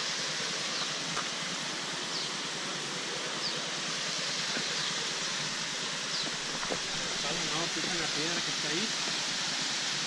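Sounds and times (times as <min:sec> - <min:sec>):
water rushing from a cascade: 0:00.0 - 0:10.0.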